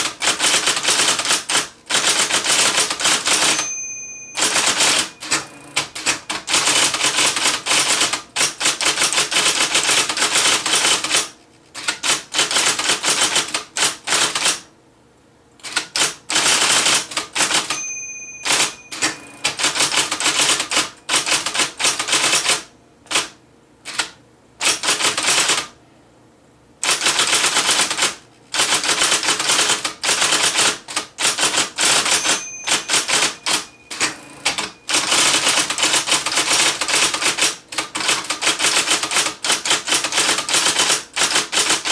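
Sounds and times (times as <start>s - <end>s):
electric typewriter typing: 0.0s - 14.7s, 15.6s - 25.8s, 26.8s - 41.9s.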